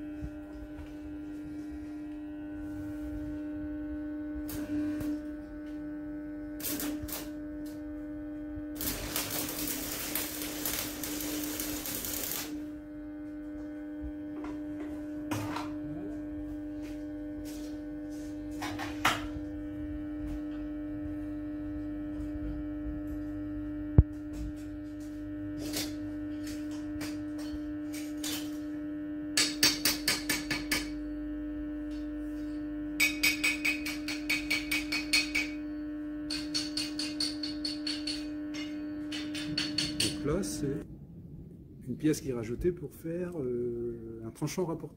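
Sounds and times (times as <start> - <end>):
steady hum: 0.0 - 44.9.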